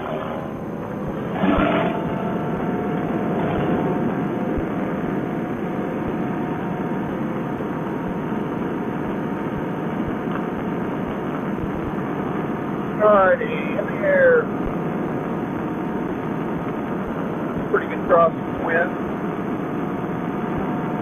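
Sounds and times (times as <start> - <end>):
paramotor engine and propeller: 0.0 - 21.0.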